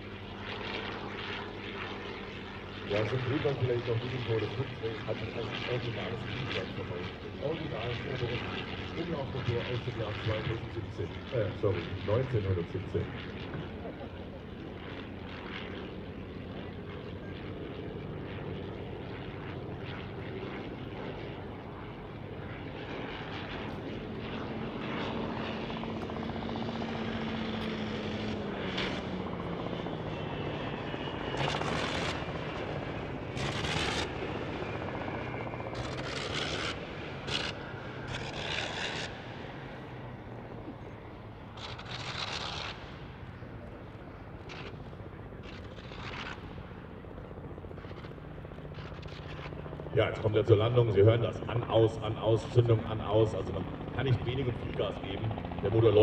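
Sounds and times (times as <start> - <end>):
rotary aircraft engine flying past: 0.0 - 56.0.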